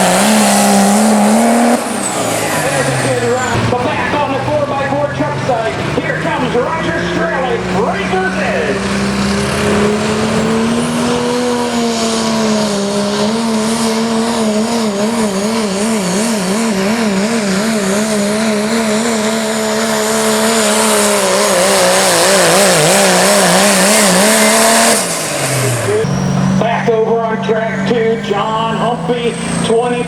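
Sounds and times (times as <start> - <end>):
diesel truck engine at full throttle: 0.0 - 30.0.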